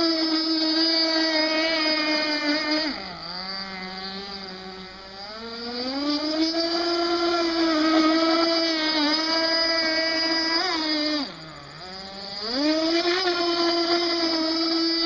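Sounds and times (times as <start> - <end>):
model boat engine buzzing: 0.0 - 15.0.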